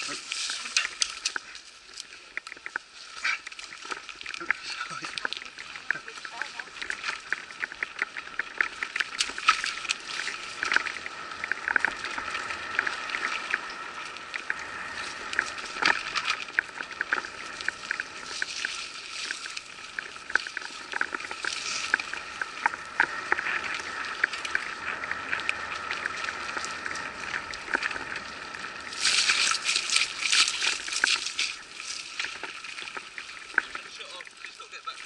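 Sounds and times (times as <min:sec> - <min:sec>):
bike clicking and rattling: 0:00.0 - 0:34.0
bike tyres on dirt and leaves: 0:00.0 - 0:35.0.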